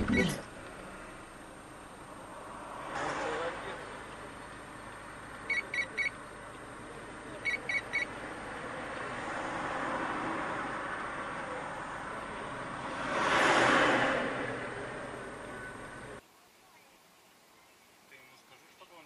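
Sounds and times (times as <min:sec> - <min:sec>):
vehicle passing: 0:00.0 - 0:16.2
street traffic: 0:00.0 - 0:16.6.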